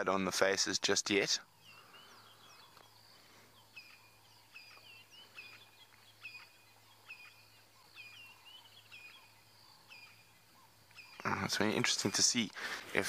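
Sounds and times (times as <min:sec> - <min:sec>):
faint bird calling: 0:01.4 - 0:13.0.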